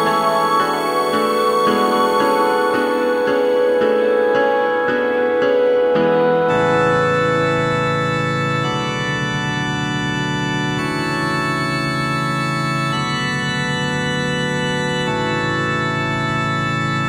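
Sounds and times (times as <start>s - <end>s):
background music held chords: 0.0s - 17.0s.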